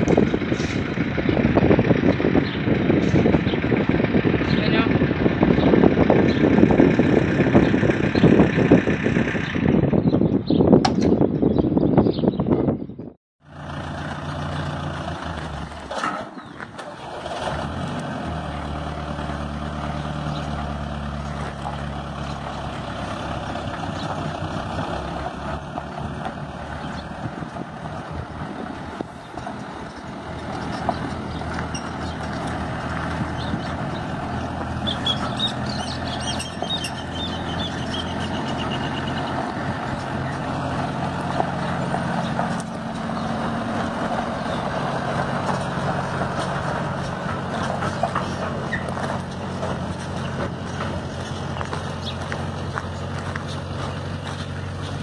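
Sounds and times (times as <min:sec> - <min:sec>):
diesel engine running: 0:00.0 - 0:12.4, 0:13.4 - 0:55.0.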